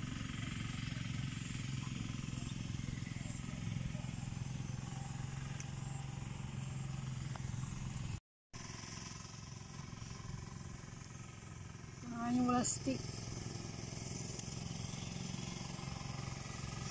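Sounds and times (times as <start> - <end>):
low engine hum: 0.0 - 16.9.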